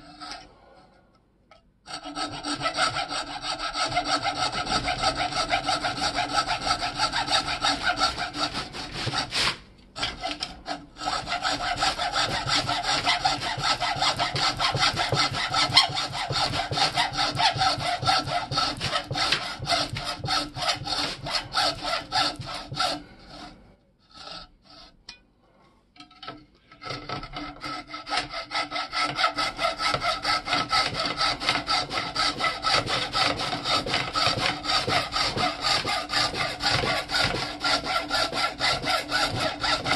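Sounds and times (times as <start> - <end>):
hacksaw sawing through metal: 0.0 - 0.5, 1.9 - 25.0, 26.8 - 39.9.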